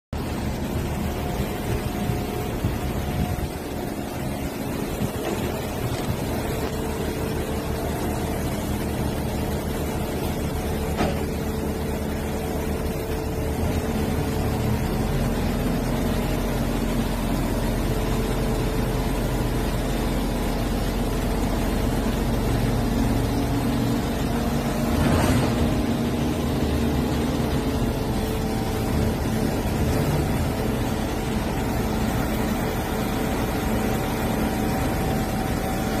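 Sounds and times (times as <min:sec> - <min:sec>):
deep rumble: 0:00.2 - 0:16.4, 0:22.0 - 0:36.0
crane diesel engine running: 0:00.2 - 0:36.0.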